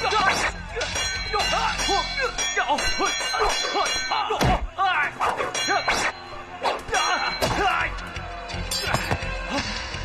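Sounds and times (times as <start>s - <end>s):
fighters shouting: 0.0s - 8.1s
background music: 0.0s - 10.0s.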